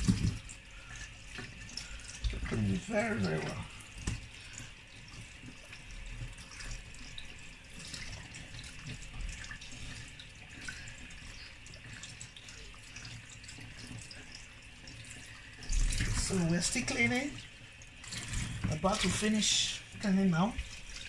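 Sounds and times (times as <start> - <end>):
kitchen tap running: 0.0 - 21.0.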